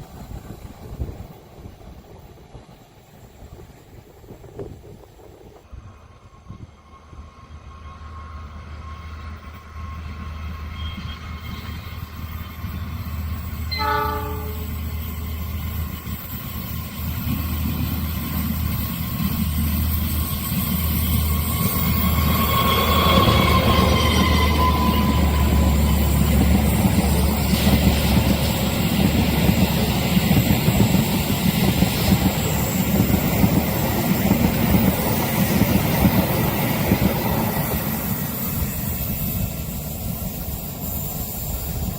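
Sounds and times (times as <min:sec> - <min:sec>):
train engine hum: 0:00.0 - 0:41.9
train wheels on rails: 0:00.0 - 0:41.9.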